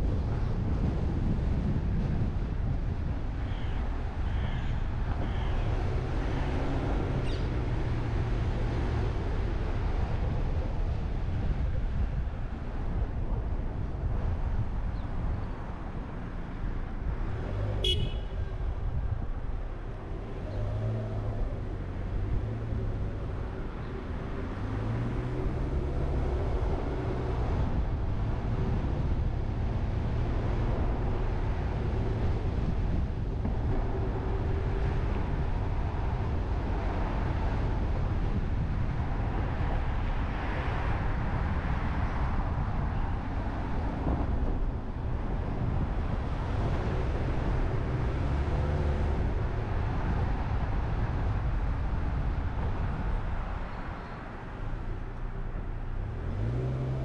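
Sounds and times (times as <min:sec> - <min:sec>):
car driving slowly: 0:00.0 - 0:57.0.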